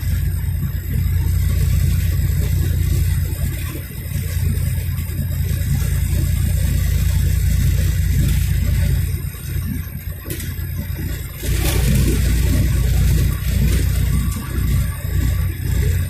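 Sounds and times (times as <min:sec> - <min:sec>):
engine and tyre rumble in cabin: 0:00.0 - 0:16.0.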